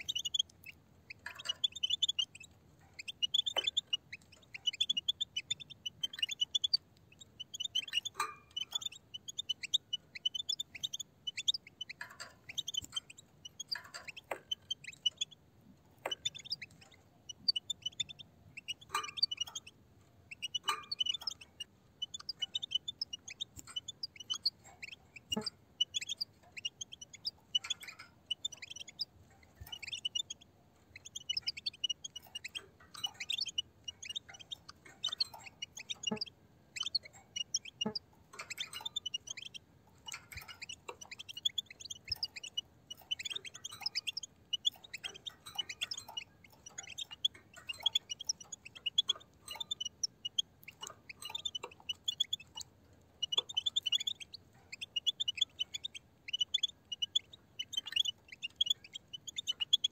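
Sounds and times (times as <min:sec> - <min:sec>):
goldfinches twittering: 0:00.0 - 0:15.4, 0:16.0 - 0:19.7, 0:20.3 - 0:59.9.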